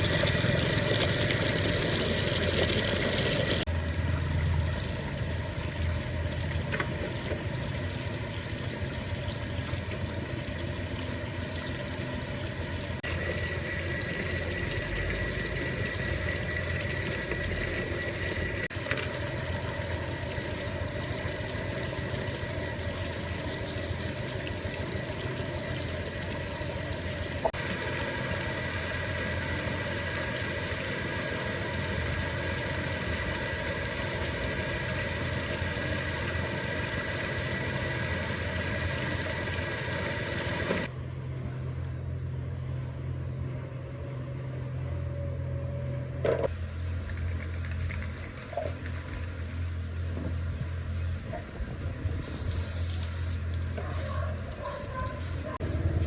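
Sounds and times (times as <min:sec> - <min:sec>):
machine running steadily: 0:00.0 - 0:56.0.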